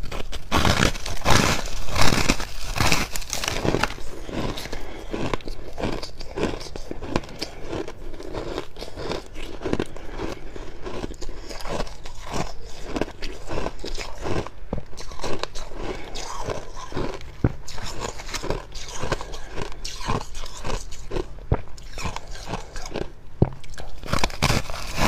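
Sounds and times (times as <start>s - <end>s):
chewing crunchy frost: 0.0s - 25.0s.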